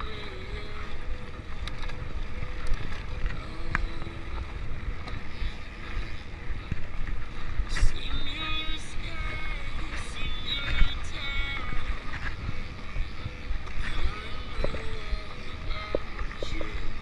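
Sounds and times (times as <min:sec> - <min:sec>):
low rumble of bike ride: 0:00.0 - 0:17.0
wind buffeting microphone: 0:00.0 - 0:17.0.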